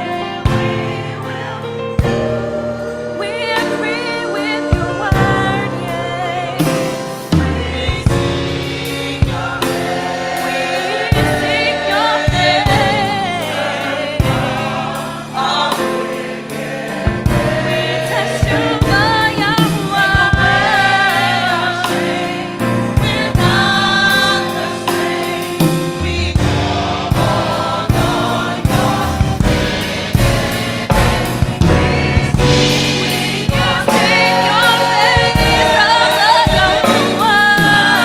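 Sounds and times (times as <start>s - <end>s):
choir singing gospel: 0.0s - 38.0s
instrumental backing with beat: 0.0s - 38.0s.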